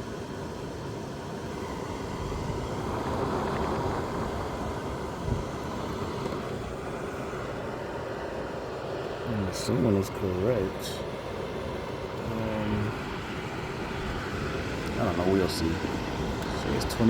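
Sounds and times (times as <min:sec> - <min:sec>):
dehumidifier fan humming: 0:00.0 - 0:17.0
faint steady tone: 0:00.0 - 0:17.0.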